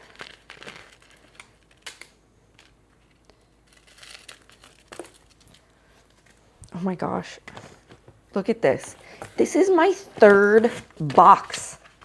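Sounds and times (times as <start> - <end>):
packaging rustling: 0.0 - 6.5, 8.9 - 12.0.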